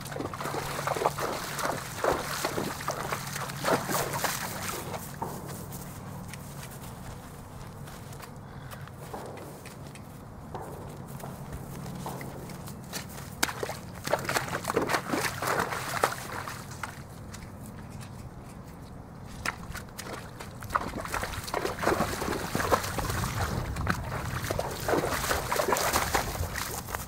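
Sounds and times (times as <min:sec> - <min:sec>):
hooves splashing through water: 0:00.0 - 0:27.0.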